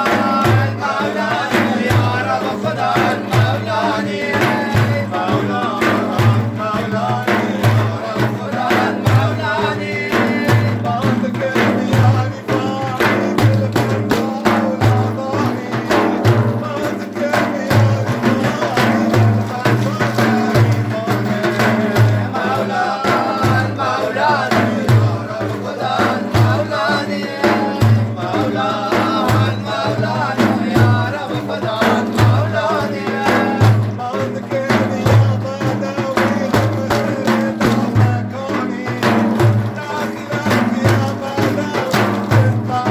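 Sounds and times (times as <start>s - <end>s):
hand drum beat: 0.0s - 42.9s
voices singing: 0.0s - 42.9s.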